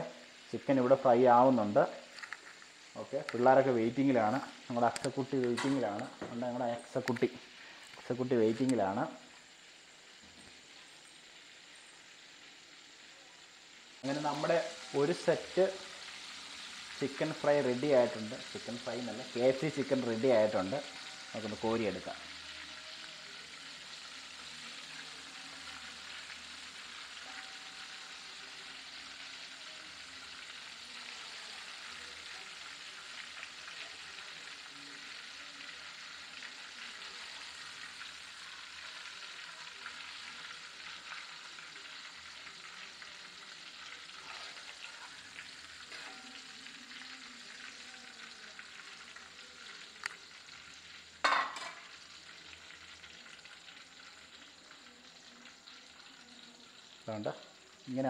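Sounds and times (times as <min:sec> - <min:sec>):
chicken deep-frying in oil: 0:00.0 - 0:58.0.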